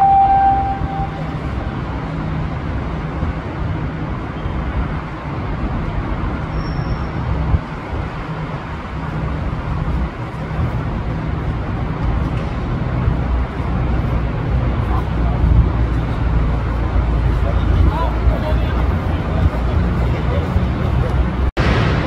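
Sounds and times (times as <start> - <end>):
railway station platform din: 0.0 - 22.0.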